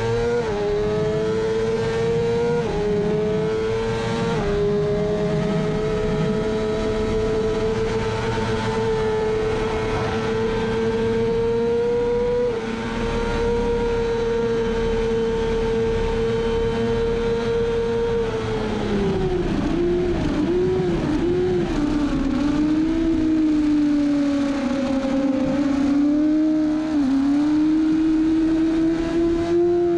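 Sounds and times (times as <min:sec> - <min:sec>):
motorcycle engine at high revs: 0:00.0 - 0:29.9.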